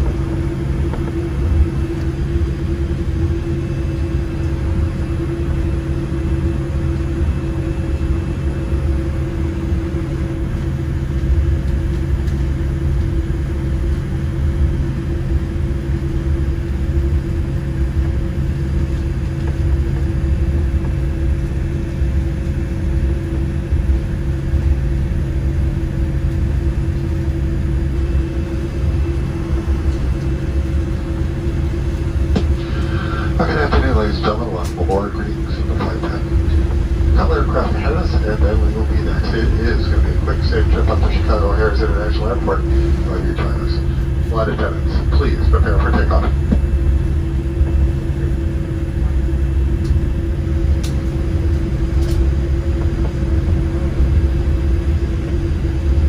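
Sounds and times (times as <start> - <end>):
airliner cabin rumble and hum: 0.0 - 56.0.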